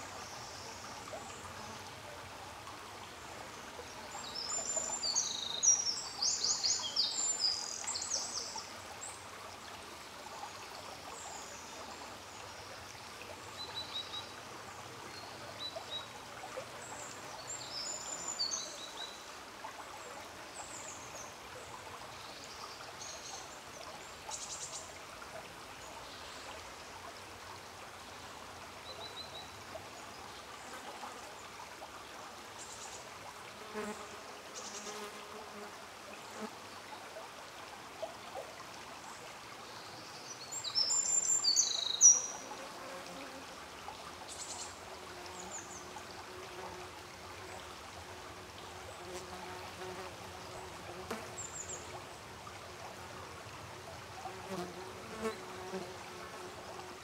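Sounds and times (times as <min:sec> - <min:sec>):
faint rushing water: 0:00.0 - 0:57.0.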